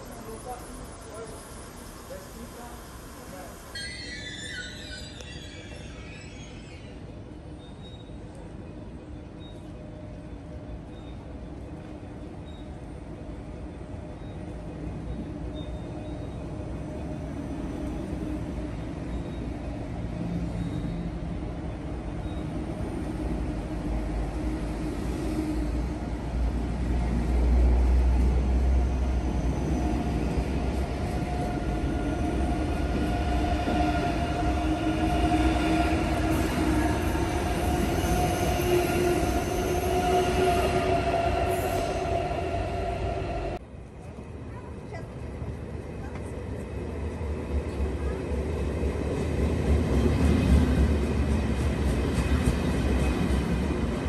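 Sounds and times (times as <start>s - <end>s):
electric train rumbling and humming: 0.0s - 54.0s.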